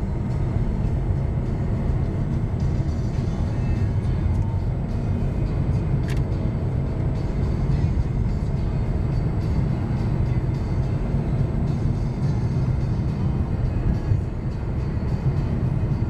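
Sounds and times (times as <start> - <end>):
car engine and tyre rumble: 0.0 - 16.0
music playing: 0.0 - 16.0.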